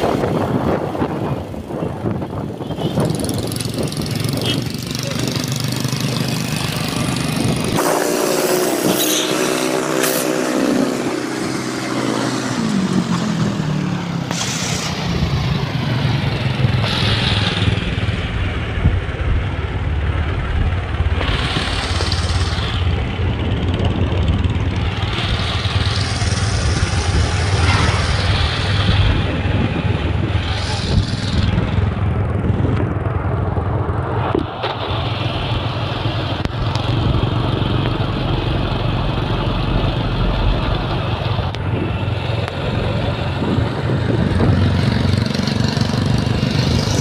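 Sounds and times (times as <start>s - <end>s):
wind noise on microphone: 0.0s - 5.6s, 6.8s - 9.5s, 16.6s - 39.2s, 40.3s - 47.0s
motorcycle engine running: 1.1s - 11.3s, 15.6s - 47.0s.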